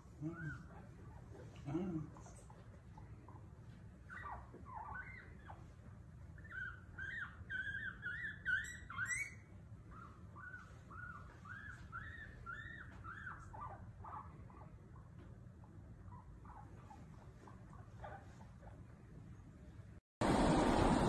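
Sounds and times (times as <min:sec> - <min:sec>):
small animal squeaking: 0:00.2 - 0:03.5, 0:04.1 - 0:15.2, 0:16.0 - 0:18.8.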